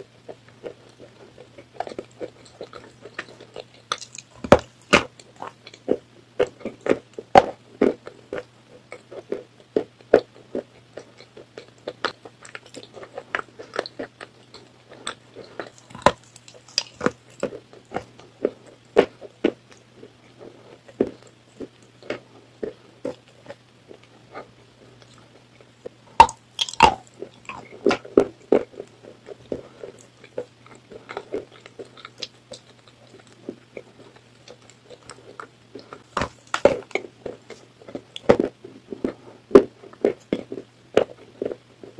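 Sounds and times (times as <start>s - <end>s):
chewing crunches: 0.0s - 41.9s
faint steady hum: 0.0s - 41.9s.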